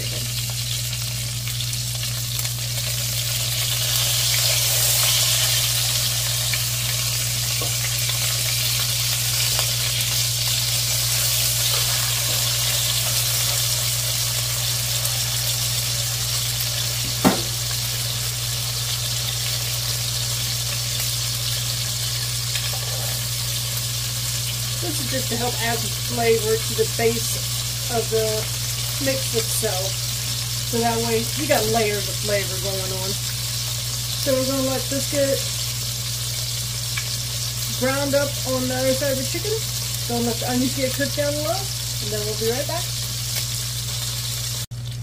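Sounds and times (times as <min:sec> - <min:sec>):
chicken sizzling in hot oil: 0:00.0 - 0:45.0.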